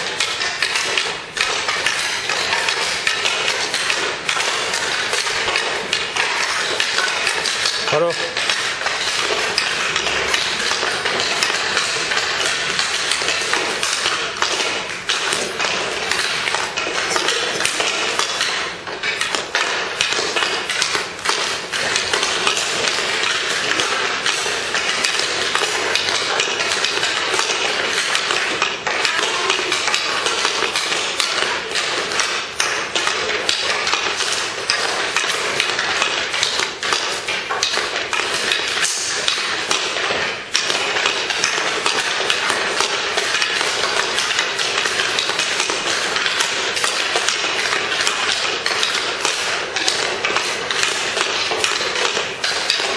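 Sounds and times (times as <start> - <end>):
hockey sticks and pucks knocking: 0.0 - 52.9.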